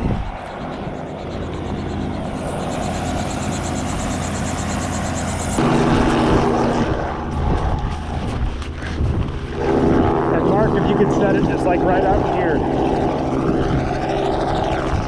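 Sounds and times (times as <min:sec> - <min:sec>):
helicopter rotor and turbine: 0:00.0 - 0:15.0.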